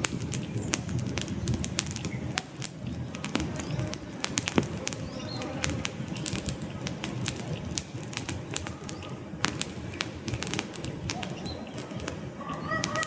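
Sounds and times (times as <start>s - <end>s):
burning logs popping and snapping: 0.0s - 13.0s
low rush of flames: 0.0s - 13.0s.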